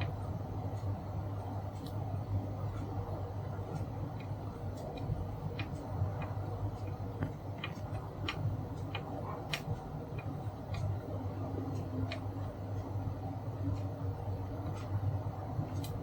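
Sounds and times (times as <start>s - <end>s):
light clicks and ticks: 0.0s - 16.0s
steady low hum: 0.0s - 16.0s.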